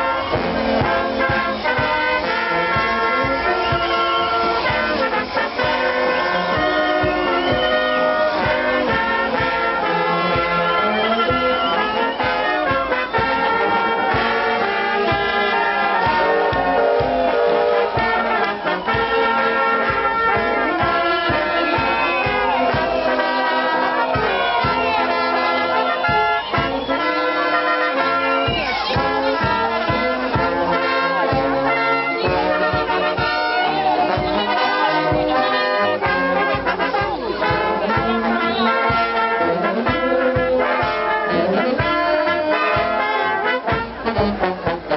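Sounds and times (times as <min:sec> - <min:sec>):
brass band playing: 0:00.0 - 0:44.9.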